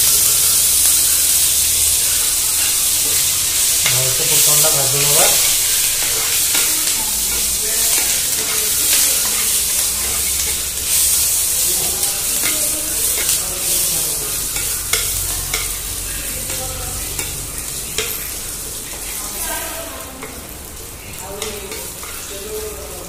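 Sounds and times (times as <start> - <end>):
spices sizzling in hot oil: 0.0 - 23.0.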